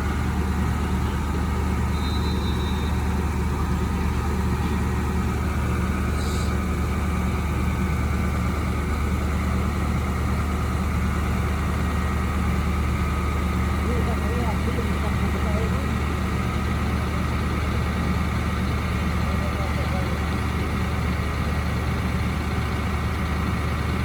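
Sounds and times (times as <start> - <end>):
crane engine humming: 0.0 - 24.0.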